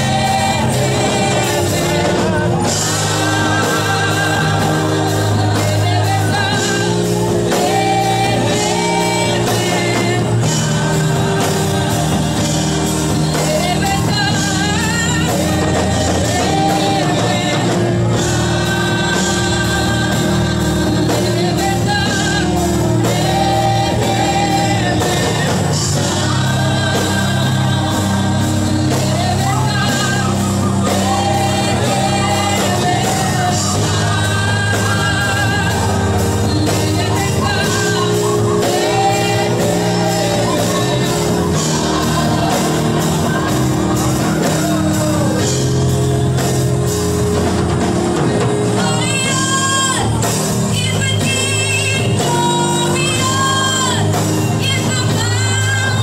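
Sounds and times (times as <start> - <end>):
drum kit: 0.0 - 56.0
group singing gospel: 0.0 - 56.0
guitar: 0.0 - 56.0.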